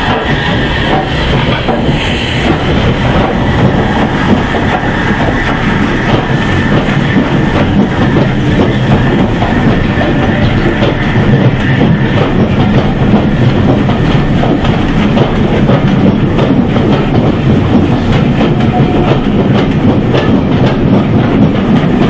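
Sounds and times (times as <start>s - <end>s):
steam locomotive working: 0.0s - 22.0s
train wheels clicking over rail joints: 0.0s - 22.0s.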